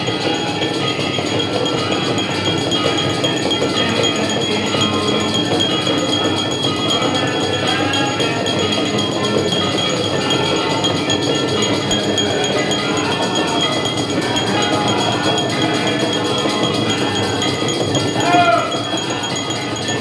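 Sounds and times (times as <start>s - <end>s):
bells ringing rapidly: 0.0s - 20.0s
devotional music: 0.0s - 20.0s.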